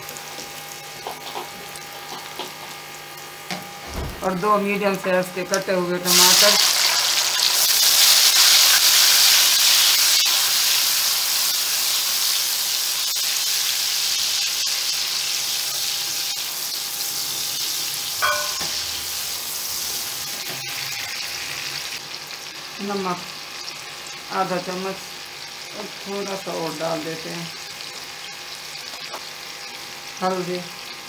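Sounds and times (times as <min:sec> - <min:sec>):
tomatoes sizzling in hot oil: 0:00.0 - 0:03.6, 0:05.2 - 0:31.0.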